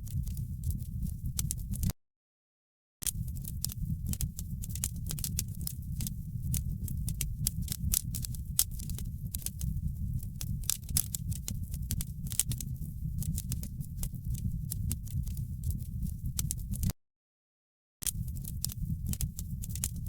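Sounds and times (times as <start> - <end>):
fire crackles and pops: 0.0 - 1.9, 3.0 - 16.9, 18.0 - 20.0
low rumble of flames: 0.0 - 1.9, 3.1 - 16.9, 18.1 - 20.0.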